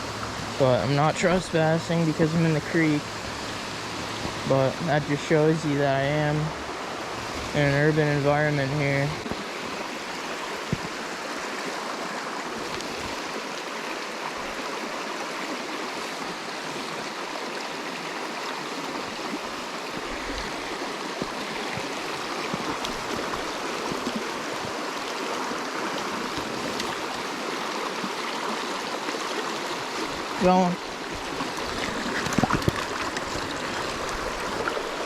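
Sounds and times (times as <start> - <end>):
creek running over rocks: 0.0 - 35.0.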